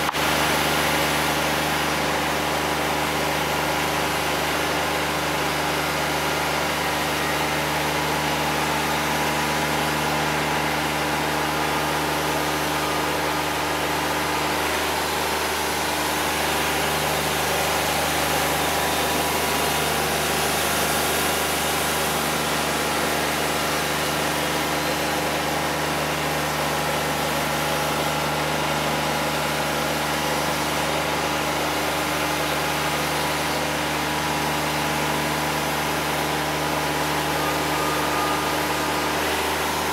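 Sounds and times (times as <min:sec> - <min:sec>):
sawmill engine humming: 0:00.0 - 0:39.9.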